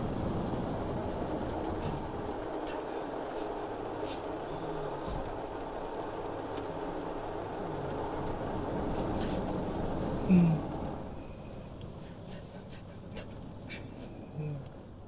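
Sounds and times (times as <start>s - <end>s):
car wash water spray: 0.0s - 15.0s.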